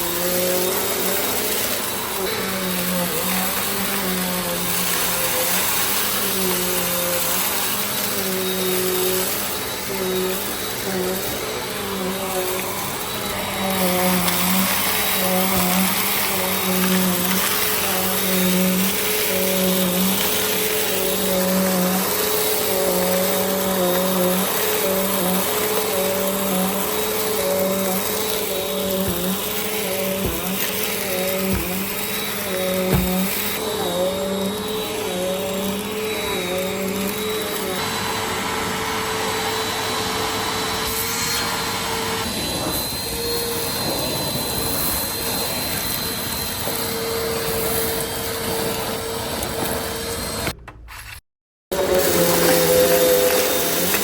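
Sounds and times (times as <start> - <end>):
vacuum cleaner running: 0.0 - 50.7, 51.7 - 54.0.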